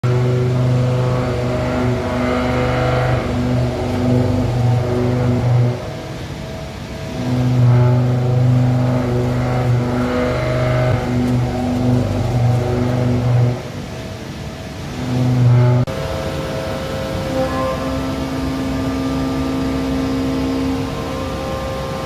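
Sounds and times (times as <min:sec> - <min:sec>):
cnc machine low hum: 0:00.0 - 0:22.0.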